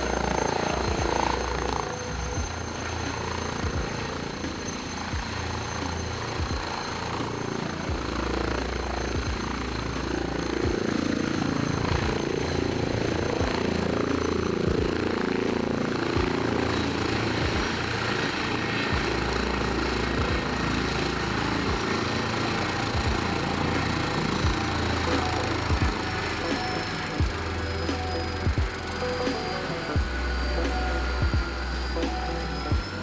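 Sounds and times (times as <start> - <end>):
helicopter rotor thumping: 0.0 - 33.0
high turbine whine: 0.0 - 33.0.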